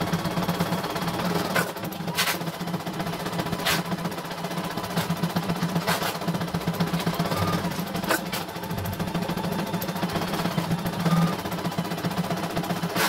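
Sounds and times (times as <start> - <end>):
sharp machine clicks: 0.0 - 13.0.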